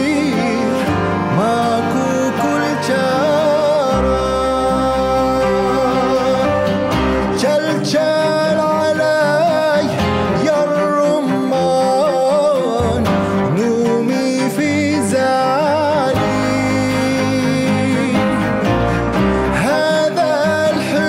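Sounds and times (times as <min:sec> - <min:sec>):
acoustic guitar: 0:00.0 - 0:21.0
cellos: 0:00.0 - 0:21.0
man singing: 0:00.0 - 0:21.0
piano: 0:00.0 - 0:21.0.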